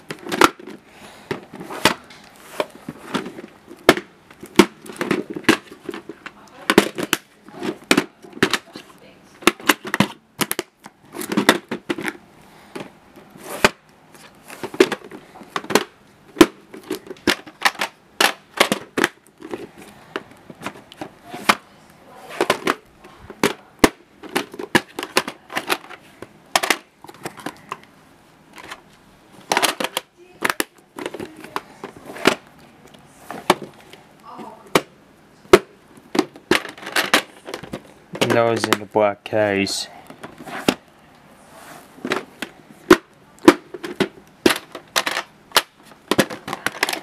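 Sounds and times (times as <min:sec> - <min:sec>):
plastic cases clicking and snapping: 0:00.0 - 0:21.7, 0:22.3 - 0:27.9, 0:28.5 - 0:34.0, 0:35.5 - 0:38.9, 0:42.0 - 0:47.0.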